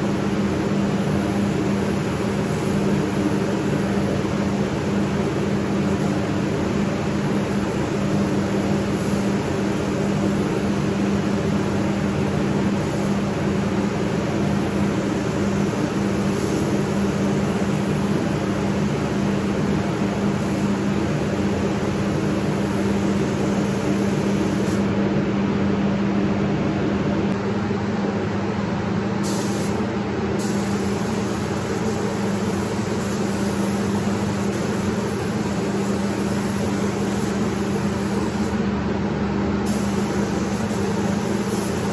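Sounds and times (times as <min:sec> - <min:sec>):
fans humming: 0:00.0 - 0:41.9
spray gun hissing: 0:00.1 - 0:24.9, 0:29.2 - 0:29.8, 0:30.4 - 0:38.6, 0:39.6 - 0:41.9.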